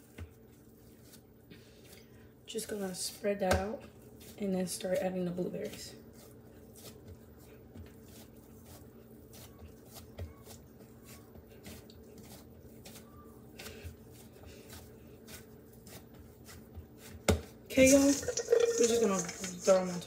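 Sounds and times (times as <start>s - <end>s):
hands tapping and rustling dough: 0.0s - 20.0s.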